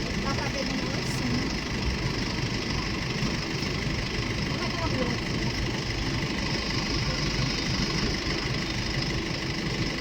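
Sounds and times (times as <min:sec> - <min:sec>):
jet engines rumbling and whining: 0:00.0 - 0:10.0.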